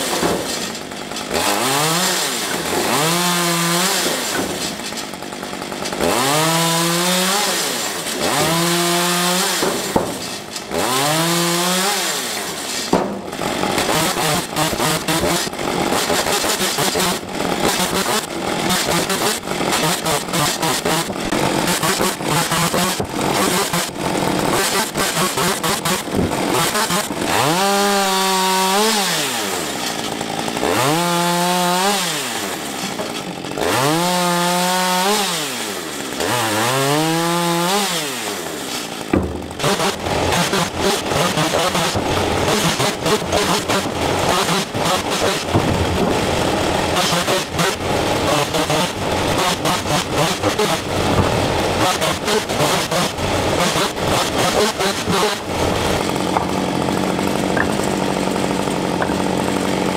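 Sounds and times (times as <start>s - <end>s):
chainsaw revving: 0.0s - 59.9s
chainsaw sawing with knocks: 0.0s - 59.9s.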